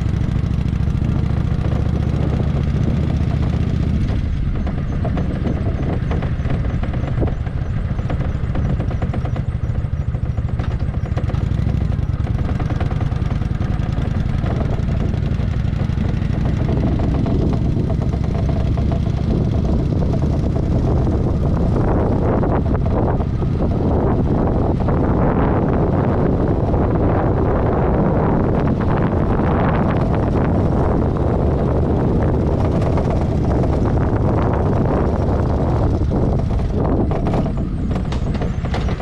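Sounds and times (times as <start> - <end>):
motorcycle engine running: 0.0 - 39.0
wind noise on microphone: 0.0 - 39.0.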